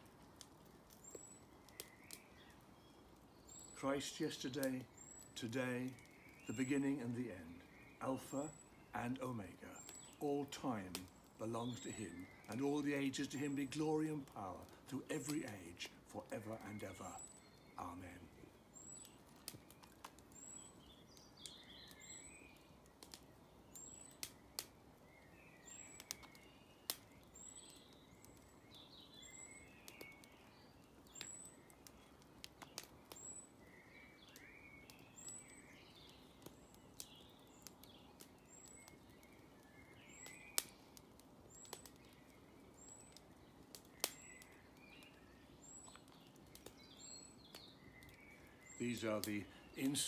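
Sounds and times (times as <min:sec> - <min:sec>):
faint birdsong: 0:00.0 - 0:50.0
wood fire crackling and popping: 0:00.0 - 0:50.0.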